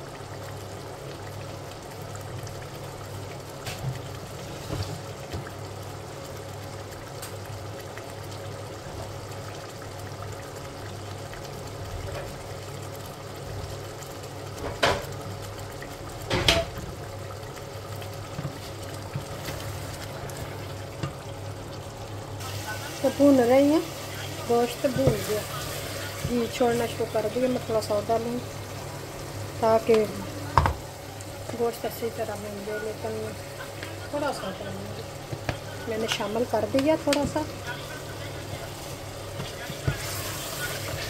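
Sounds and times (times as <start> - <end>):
meat bubbling in a pot: 0.0 - 41.0.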